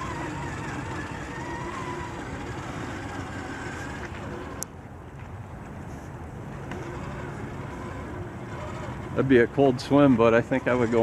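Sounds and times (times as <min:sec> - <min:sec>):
electric motor and gears whining: 0:00.0 - 0:05.2, 0:06.1 - 0:11.0.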